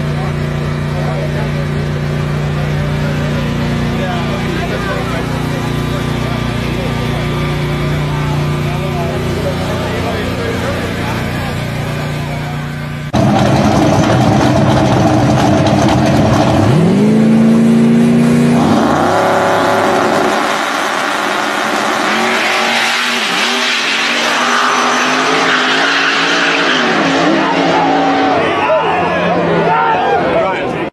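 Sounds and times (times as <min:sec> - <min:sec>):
race car engine revving: 0:00.0 - 0:30.9.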